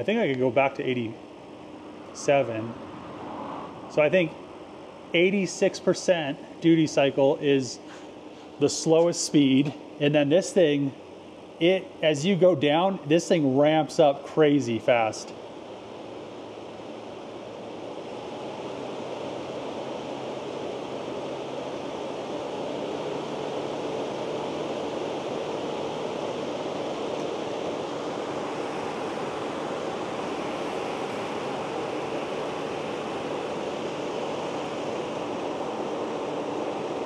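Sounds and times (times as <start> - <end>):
electric fan rushing air: 0.0 - 37.0
faint fan hum: 0.0 - 37.0.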